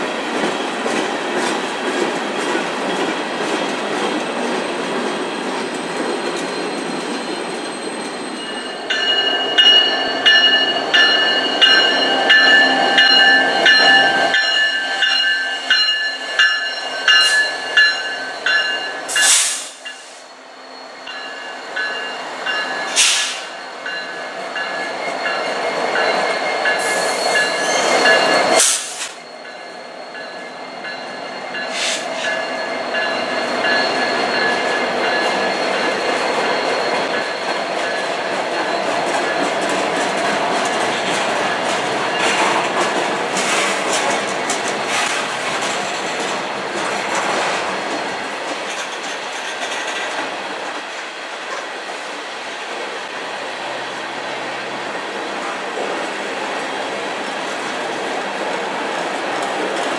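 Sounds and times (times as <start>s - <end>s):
diesel locomotive engine passing: 0.0s - 59.9s
rumble of wheels on rail: 0.0s - 59.9s.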